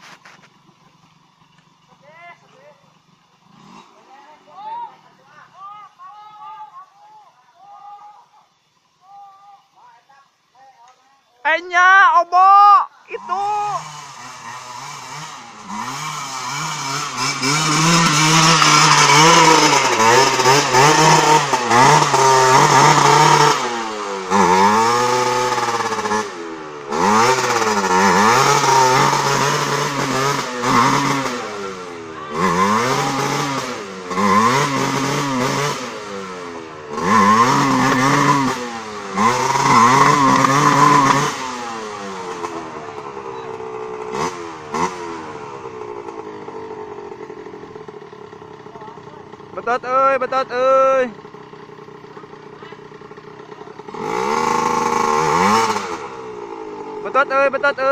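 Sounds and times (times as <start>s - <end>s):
motorcycle engine revving: 0.0s - 5.7s, 13.1s - 57.9s.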